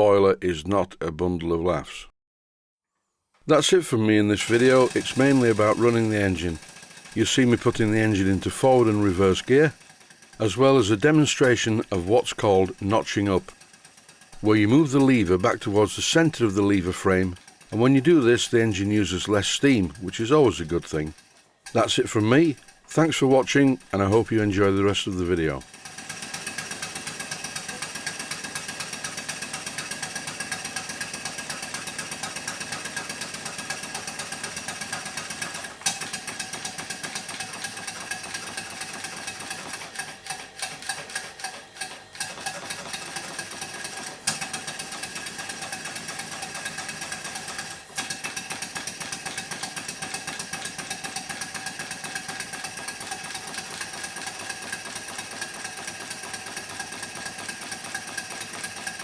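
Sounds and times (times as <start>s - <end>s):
model steam engine exhaust beating: 4.4s - 59.0s.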